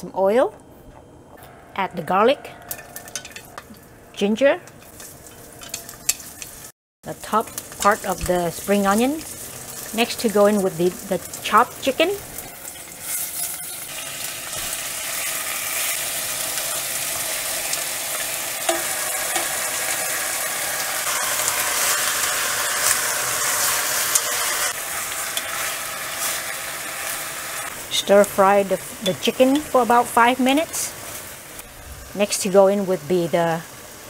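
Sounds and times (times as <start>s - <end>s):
chicken sizzling in hot oil: 4.8s - 34.0s.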